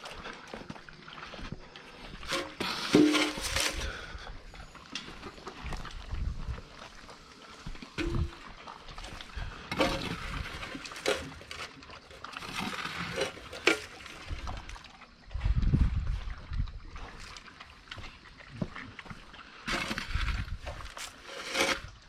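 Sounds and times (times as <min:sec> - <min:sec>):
dogs chewing and slurping: 0:00.0 - 0:22.0.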